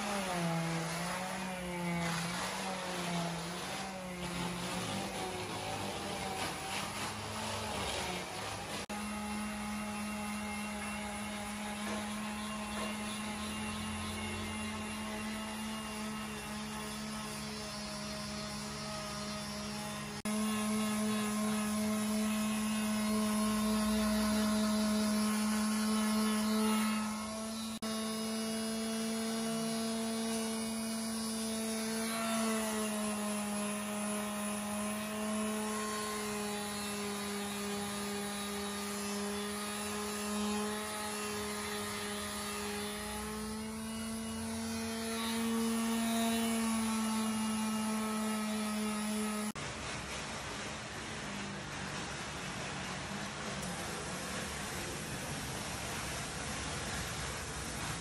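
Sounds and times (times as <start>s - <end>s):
electric palm sander humming: 0.0s - 49.6s.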